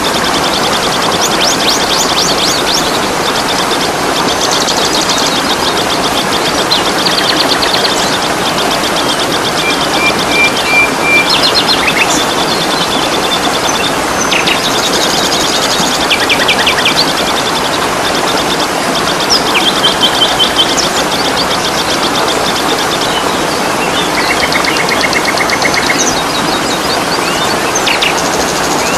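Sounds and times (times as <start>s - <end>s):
falling water rushing: 0.0s - 28.9s
songbirds trilling and chirping: 0.0s - 28.9s.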